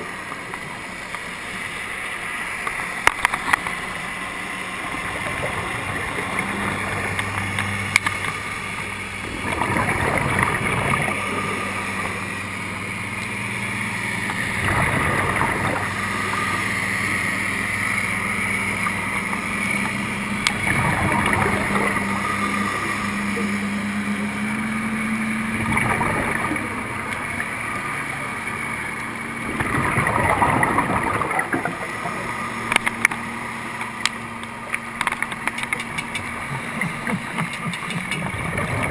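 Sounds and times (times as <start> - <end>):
low engine hum underwater: 0.0 - 38.9
scuba exhaust bubbles underwater: 0.0 - 38.9.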